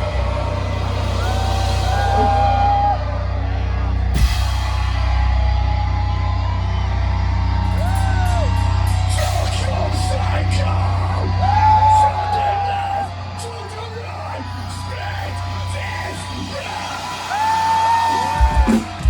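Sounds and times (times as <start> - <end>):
metal band playing live: 0.0 - 19.0.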